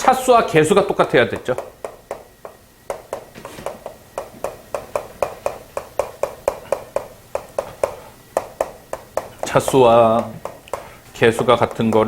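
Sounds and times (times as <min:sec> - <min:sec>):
tapping of writing on a board: 0:00.7 - 0:12.0.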